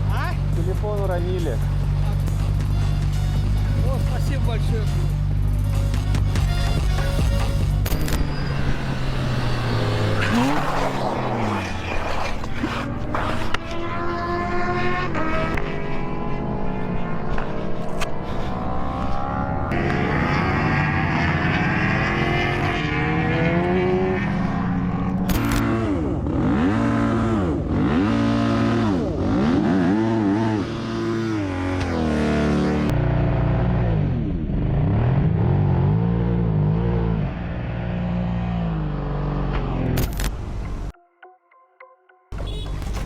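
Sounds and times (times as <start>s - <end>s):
motorcycle engine revving: 0.0s - 40.1s.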